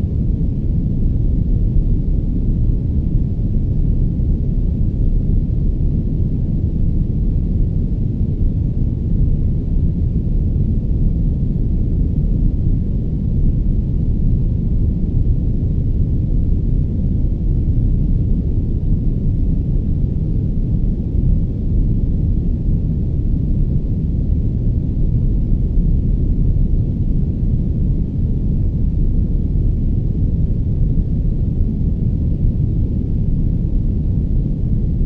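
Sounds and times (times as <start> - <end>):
soft pink noise: 0.0 - 35.0.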